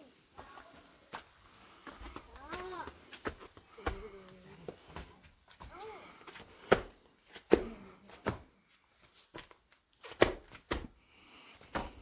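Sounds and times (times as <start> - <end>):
footsteps: 0.0 - 10.9.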